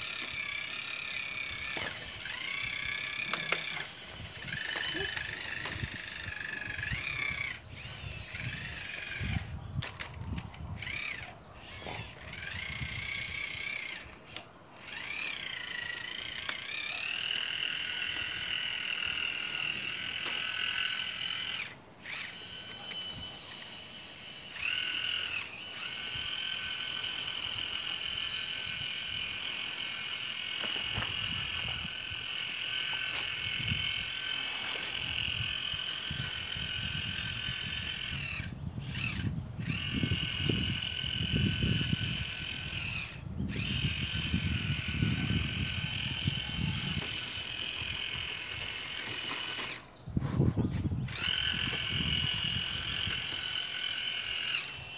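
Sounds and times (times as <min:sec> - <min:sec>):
toy excavator motor whine: 0:00.0 - 0:54.9.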